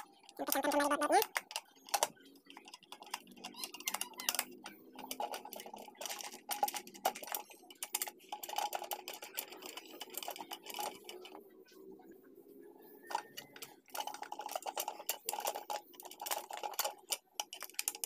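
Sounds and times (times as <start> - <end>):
small plastic clicks: 0.0 - 11.4, 13.1 - 18.0.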